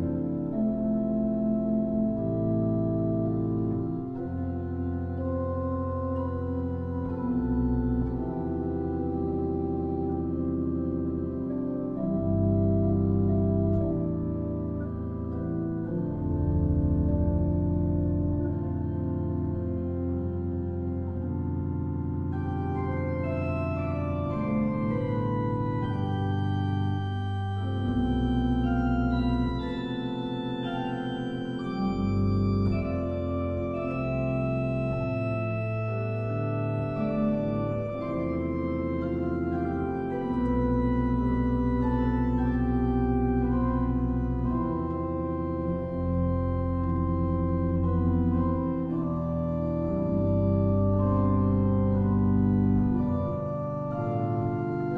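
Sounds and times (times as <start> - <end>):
organ playing slow chords: 0.0 - 54.9.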